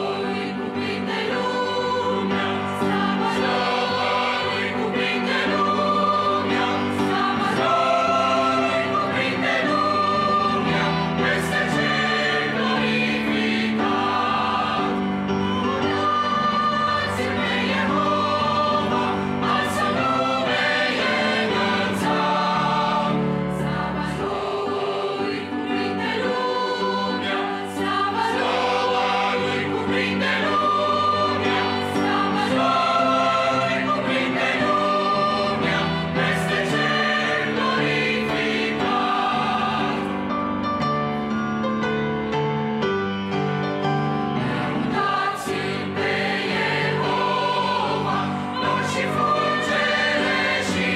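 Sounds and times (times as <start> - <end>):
mixed choir singing a hymn: 0.0 - 40.7, 44.0 - 50.9
piano accompaniment: 0.0 - 50.9.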